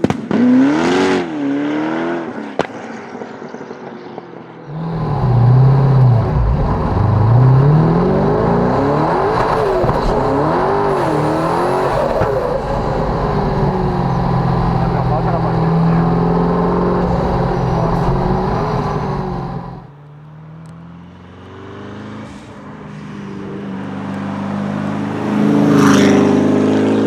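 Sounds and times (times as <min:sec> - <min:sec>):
car engine accelerating hard: 0:00.0 - 0:27.0.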